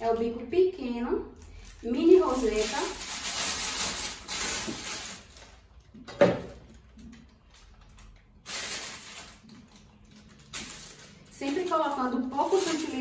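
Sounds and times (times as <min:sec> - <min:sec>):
plastic piping bag rustling: 0:01.3 - 0:06.0, 0:06.6 - 0:13.0.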